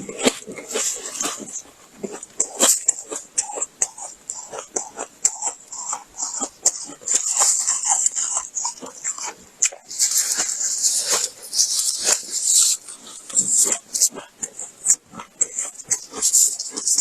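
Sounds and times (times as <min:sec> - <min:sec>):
frost being chewed crunching: 0:00.0 - 0:17.0.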